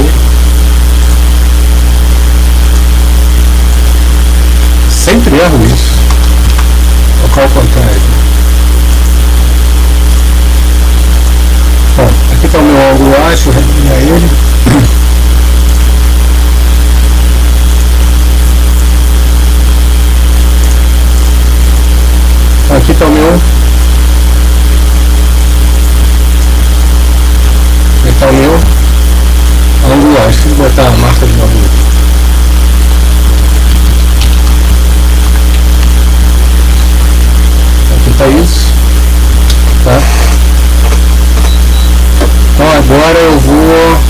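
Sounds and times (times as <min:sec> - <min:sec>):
electrical hum: 0:00.0 - 0:44.0.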